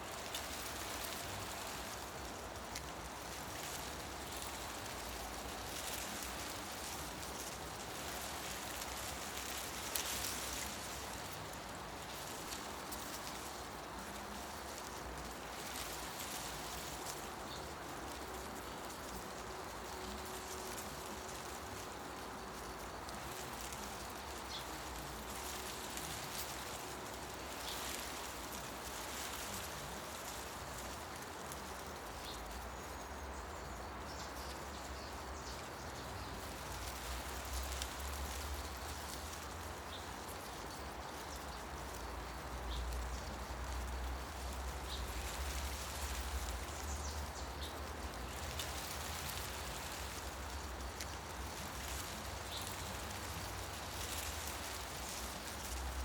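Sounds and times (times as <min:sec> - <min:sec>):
wind rustling tree leaves: 0:00.0 - 0:56.0.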